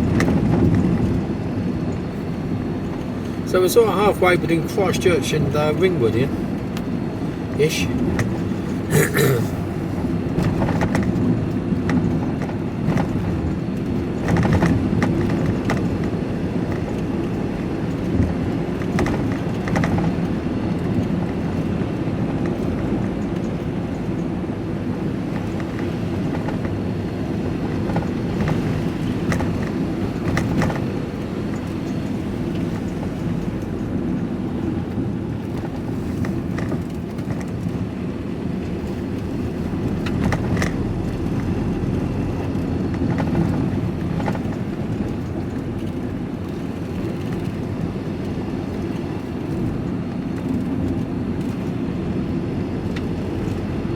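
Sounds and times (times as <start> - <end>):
knocks and rattles on bumpy road: 0.0 - 53.9
van engine and tyre noise: 0.0 - 53.9.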